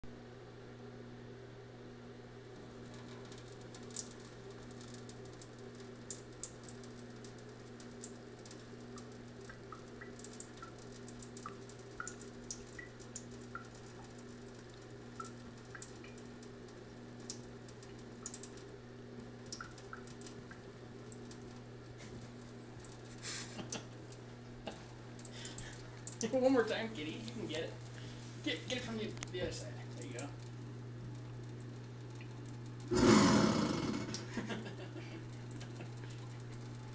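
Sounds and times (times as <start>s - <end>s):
water drips and splashes: 2.6s - 32.9s, 34.0s - 36.9s.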